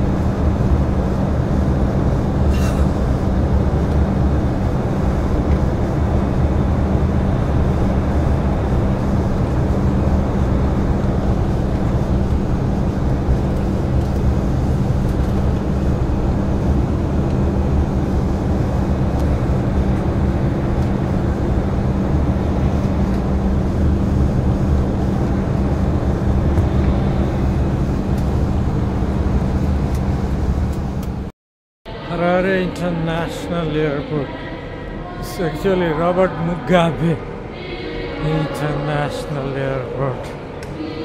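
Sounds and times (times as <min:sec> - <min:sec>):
airliner cabin engine drone: 0:00.0 - 0:31.3, 0:31.9 - 0:41.0
low even hum: 0:00.0 - 0:31.3, 0:31.9 - 0:41.0.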